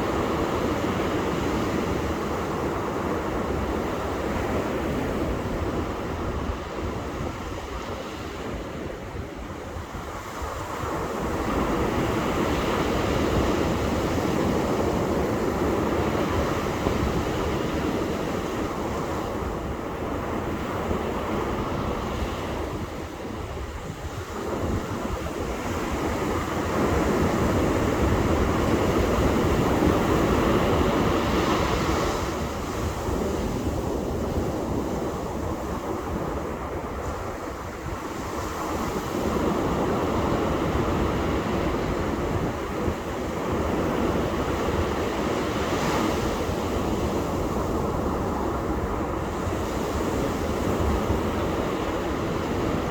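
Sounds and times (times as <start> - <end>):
ocean surf breaking on beach: 0.0 - 52.9.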